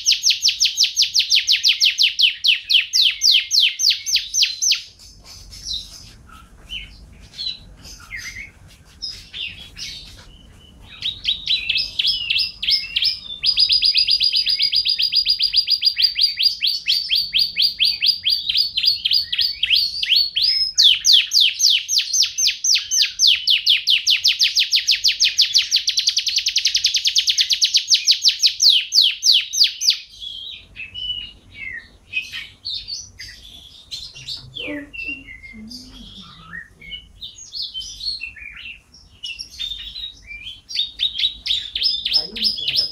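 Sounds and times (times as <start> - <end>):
canary chirping and trilling: 0.0 - 42.9.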